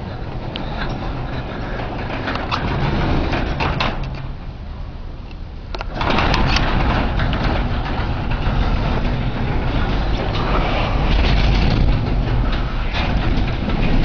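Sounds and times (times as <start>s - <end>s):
blizzard wind buffeting microphone: 0.0s - 14.0s.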